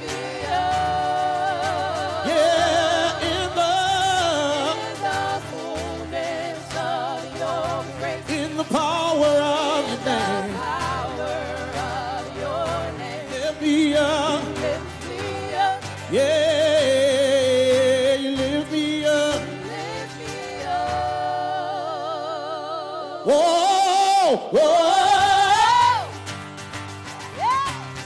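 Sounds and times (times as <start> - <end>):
group singing with vibrato: 0.0 - 26.3
acoustic guitar: 0.0 - 28.0.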